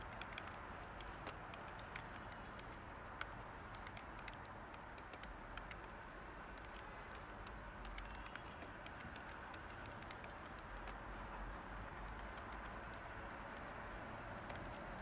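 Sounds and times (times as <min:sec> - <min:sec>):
keyboard key clicks: 0:00.0 - 0:05.9, 0:06.6 - 0:11.0, 0:12.0 - 0:13.7, 0:14.3 - 0:14.9
steady white-noise hiss: 0:00.0 - 0:15.0.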